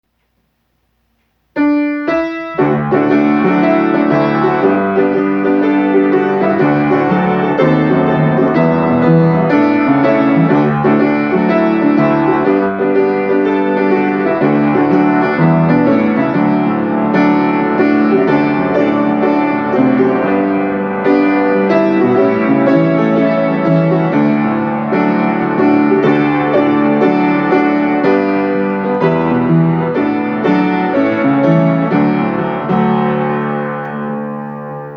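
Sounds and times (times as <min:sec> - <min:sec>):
solo piano music: 0:01.4 - 0:34.9.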